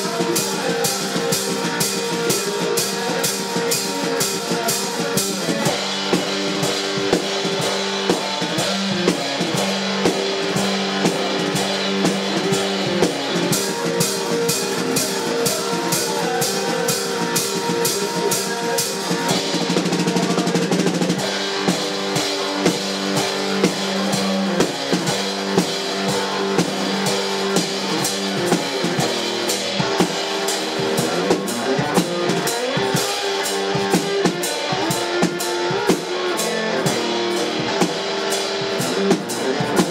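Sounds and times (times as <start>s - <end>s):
drum beat: 0.0s - 39.9s
electric guitar riffing: 0.0s - 39.9s.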